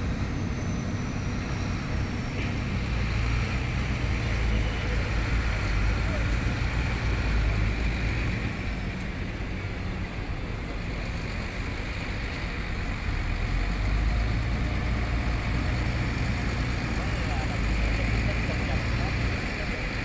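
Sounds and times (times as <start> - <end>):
diesel truck engine humming: 0.0 - 20.0.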